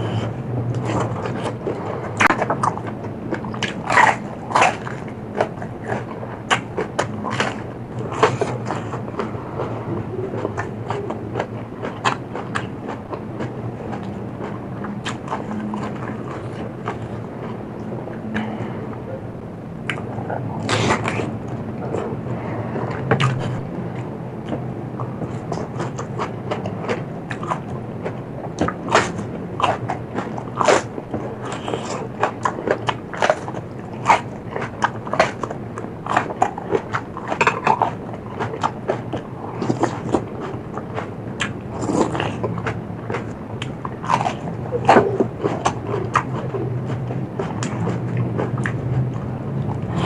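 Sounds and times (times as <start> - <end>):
person chewing crunchy food: 0.0 - 19.2, 19.8 - 50.0.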